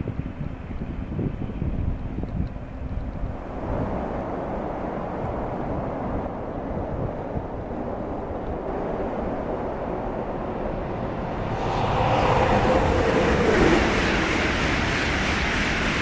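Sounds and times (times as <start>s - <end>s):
high-speed train passing: 0.0s - 16.0s
wind on microphone: 0.0s - 16.0s.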